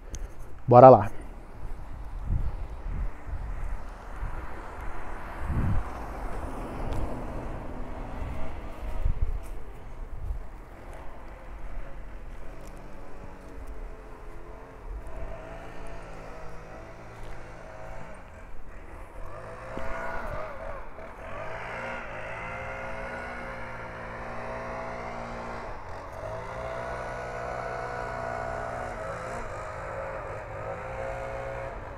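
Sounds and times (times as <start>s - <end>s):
car engine running: 1.3s - 31.9s.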